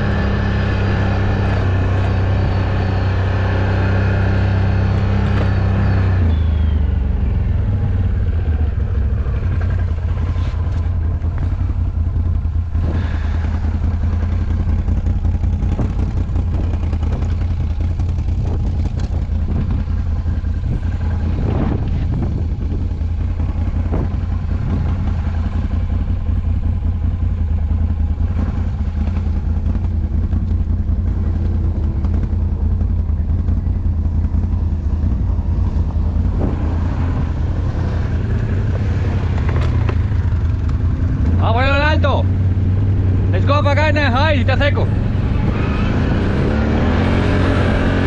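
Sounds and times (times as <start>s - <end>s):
off-road vehicle engine droning: 0.0s - 48.0s.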